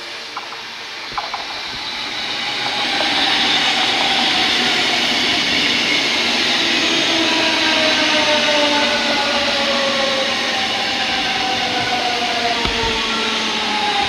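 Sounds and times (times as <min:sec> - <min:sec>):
train rushing rail noise: 0:00.0 - 0:14.0.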